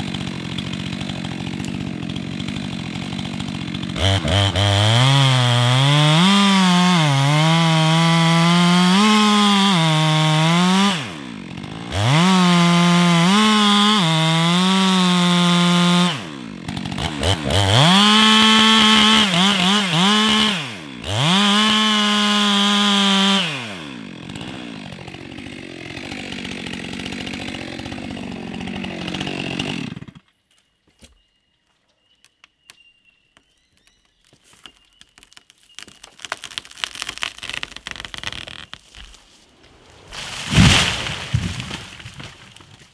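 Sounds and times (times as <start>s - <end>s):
chainsaw cutting wood: 0.0s - 30.3s, 34.6s - 42.9s.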